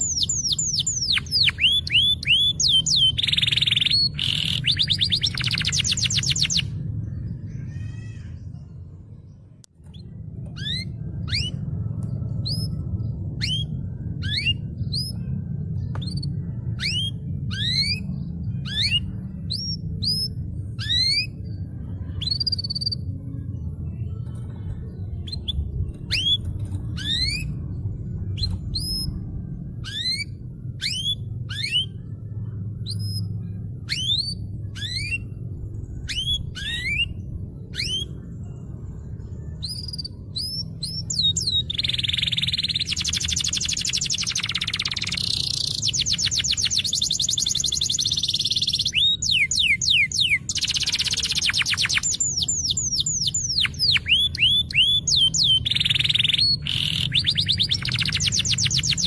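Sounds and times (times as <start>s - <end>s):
canary singing: 0.0s - 8.9s, 9.8s - 59.0s
low rumble: 0.0s - 59.0s.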